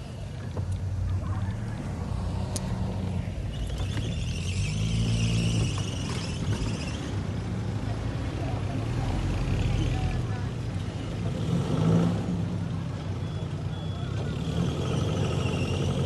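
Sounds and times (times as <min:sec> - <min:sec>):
vehicle engine under load: 0:00.0 - 0:16.0.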